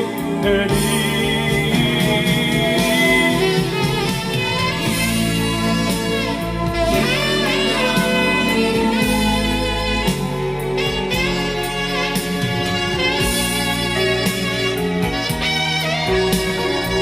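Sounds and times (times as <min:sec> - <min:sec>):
bass and band backing: 0:00.0 - 0:17.0
saxophone melody: 0:00.0 - 0:17.0.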